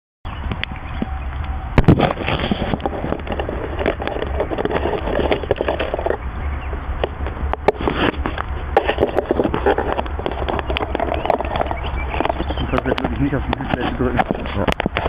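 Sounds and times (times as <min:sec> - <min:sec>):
steady low rumble: 0:00.3 - 0:15.0
rustling against microphone: 0:01.8 - 0:15.0.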